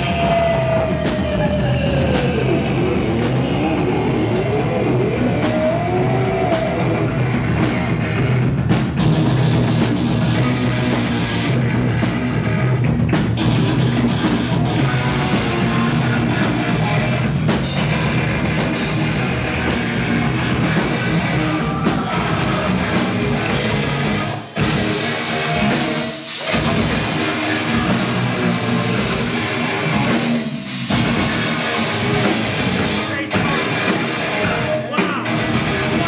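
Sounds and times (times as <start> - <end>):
heavy metal band playing: 0.0 - 36.0.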